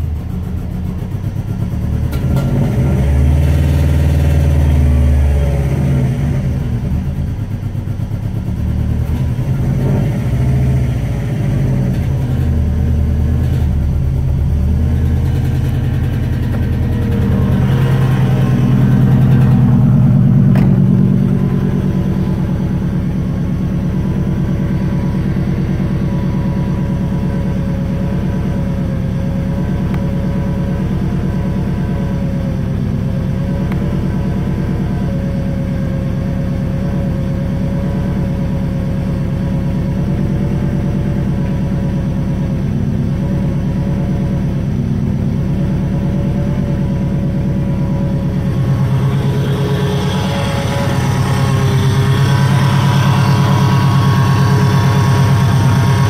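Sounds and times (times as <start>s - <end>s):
car engine at fast idle: 0.0s - 56.0s
compressor whine: 0.0s - 56.0s.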